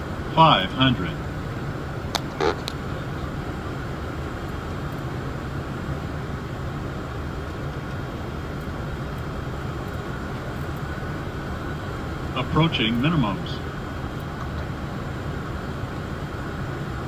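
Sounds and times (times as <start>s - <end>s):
cockpit airflow and engine noise: 0.0s - 17.0s.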